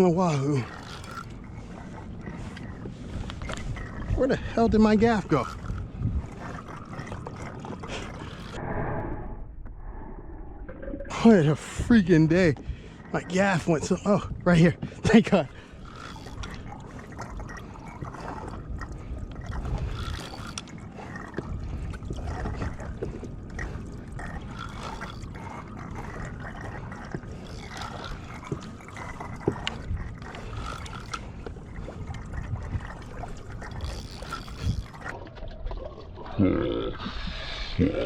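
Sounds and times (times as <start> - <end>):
water sloshing and trickling: 0.0 - 8.6, 10.4 - 37.9.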